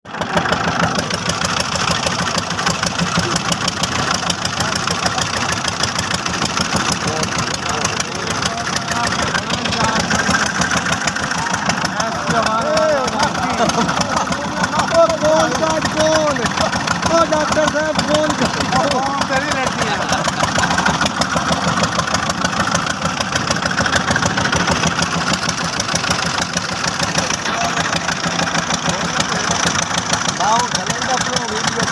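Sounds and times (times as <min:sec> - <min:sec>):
engine running with rapid pulse: 0:00.0 - 0:31.9.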